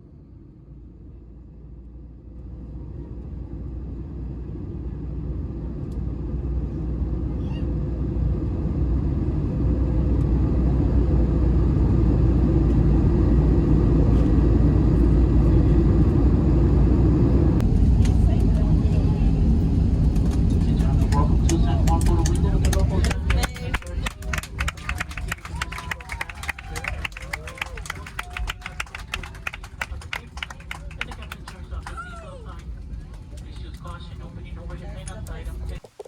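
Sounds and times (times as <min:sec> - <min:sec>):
moving vehicle rumble: 0:00.0 - 0:36.0.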